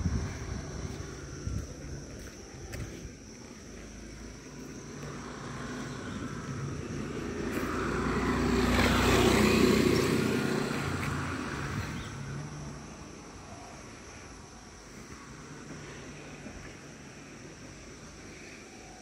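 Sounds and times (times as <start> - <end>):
passing engine hum: 0.0 - 19.0.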